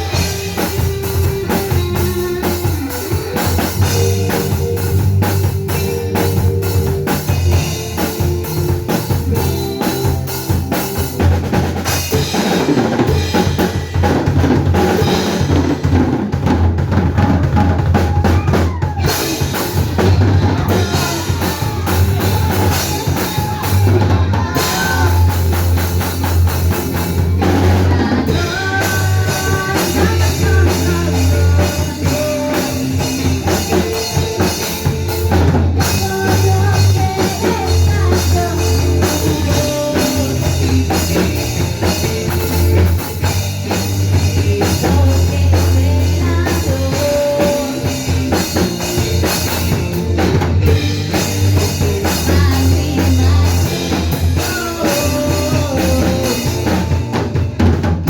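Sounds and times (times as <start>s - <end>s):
drum kit beat: 0.0s - 58.0s
rock band playing: 0.0s - 58.0s.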